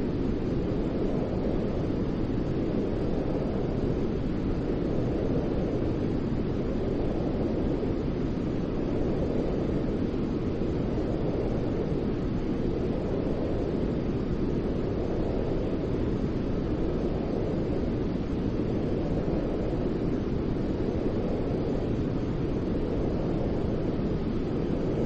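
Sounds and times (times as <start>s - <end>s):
steady white noise hiss: 0.0s - 25.0s.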